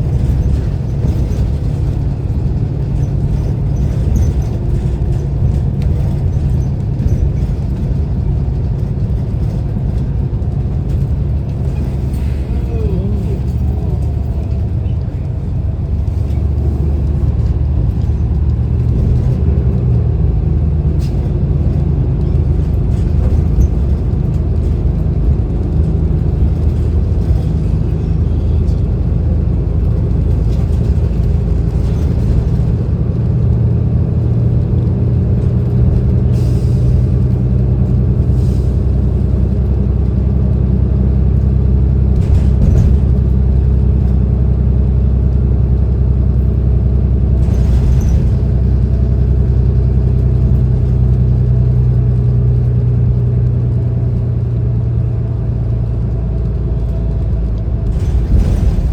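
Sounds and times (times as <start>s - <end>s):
bus engine and road rumble: 0.0s - 58.9s.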